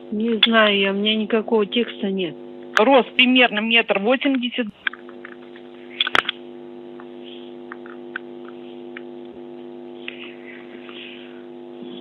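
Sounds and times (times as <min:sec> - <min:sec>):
electrical buzzing hum on phone line: 0:00.0 - 0:12.0.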